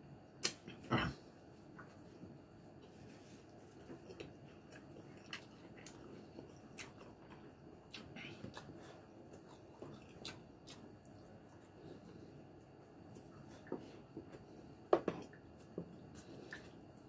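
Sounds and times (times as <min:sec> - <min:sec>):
faint chewing with mouth clicks: 0:01.6 - 0:17.0.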